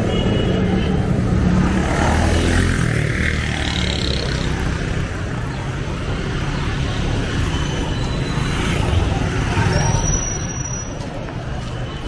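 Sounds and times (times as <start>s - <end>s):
auto-rickshaw passing: 0.0s - 12.0s.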